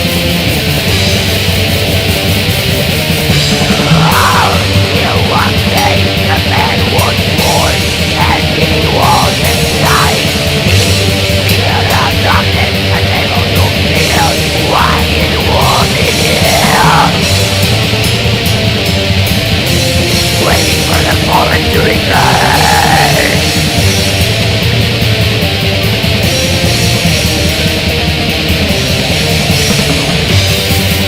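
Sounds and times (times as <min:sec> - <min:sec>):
heavy metal music: 0:00.0 - 0:31.0.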